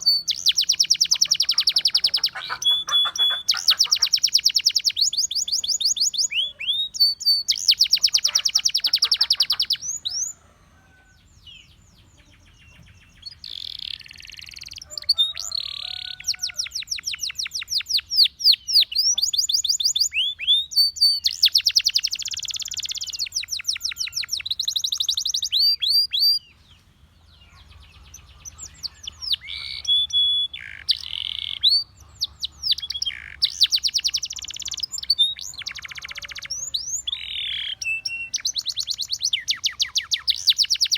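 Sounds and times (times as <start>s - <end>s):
canary singing trills: 0.0s - 10.4s, 11.2s - 40.9s.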